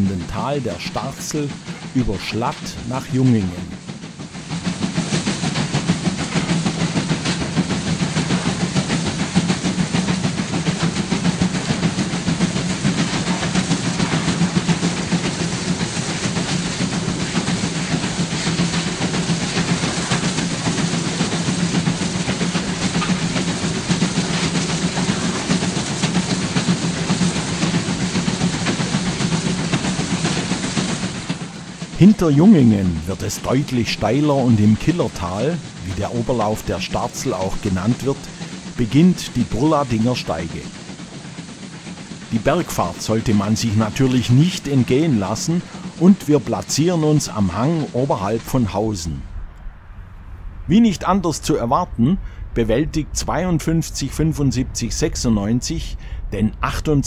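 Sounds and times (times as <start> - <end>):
steam train running: 0.0 - 57.0.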